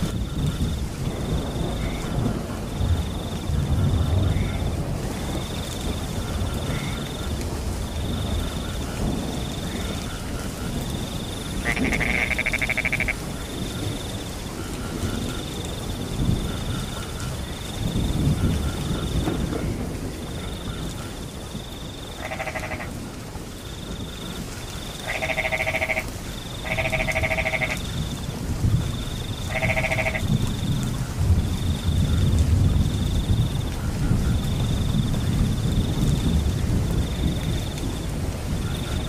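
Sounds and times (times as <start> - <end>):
crickets chirping: 0.0 - 39.0
frogs croaking: 0.0 - 39.0
rain rushing: 0.0 - 39.0.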